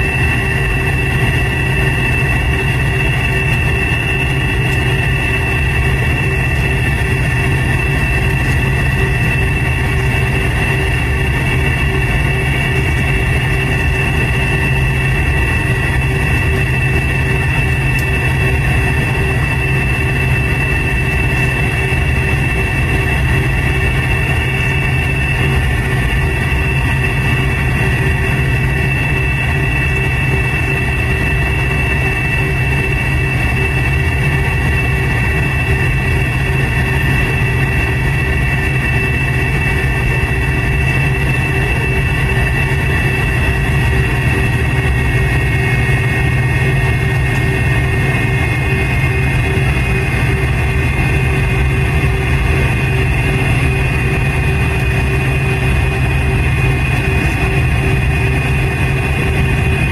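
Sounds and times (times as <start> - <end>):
jet engine high whine: 0.0 - 59.9
jet engines low drone: 0.0 - 59.9.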